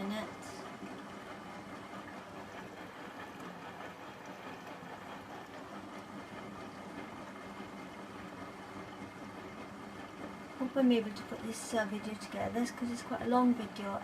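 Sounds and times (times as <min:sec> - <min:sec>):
water sloshing in drum: 0:00.0 - 0:13.7
washing machine humming: 0:00.0 - 0:14.0.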